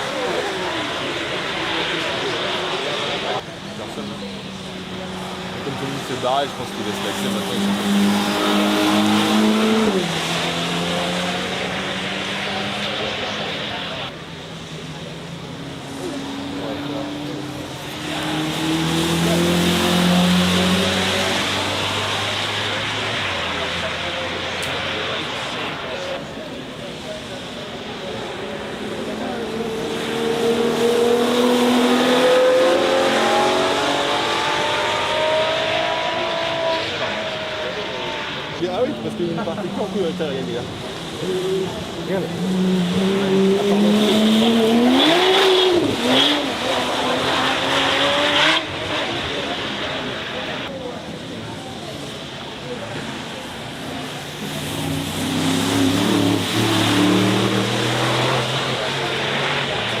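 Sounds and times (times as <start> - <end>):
car engine accelerating: 0.0 - 60.0.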